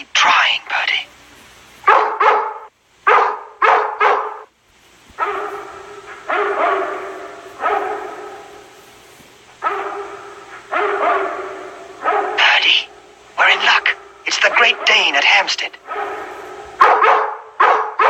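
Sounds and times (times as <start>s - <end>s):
dogs barking: 1.8s - 4.5s, 5.1s - 18.0s.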